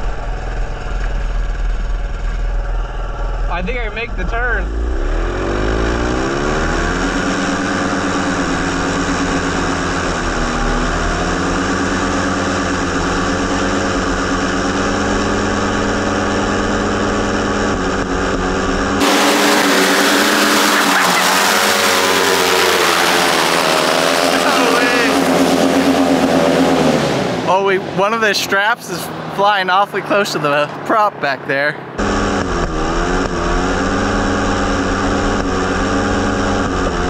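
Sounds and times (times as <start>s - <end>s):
loud propeller engine drone: 0.0s - 37.0s.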